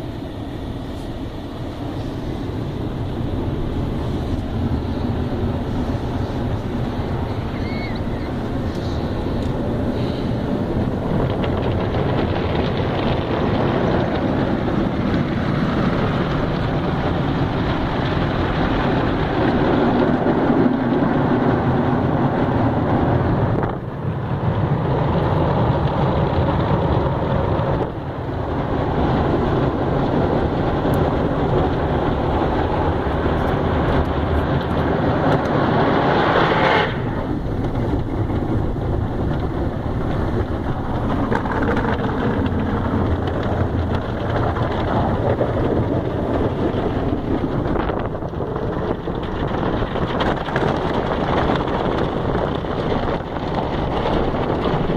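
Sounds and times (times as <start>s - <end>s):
car wash spraying water: 0.0s - 54.9s.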